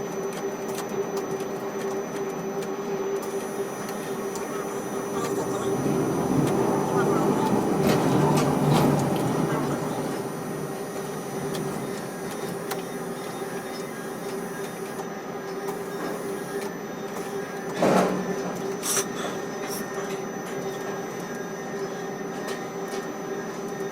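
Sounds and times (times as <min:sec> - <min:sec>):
machinery hum: 0:00.0 - 0:22.2.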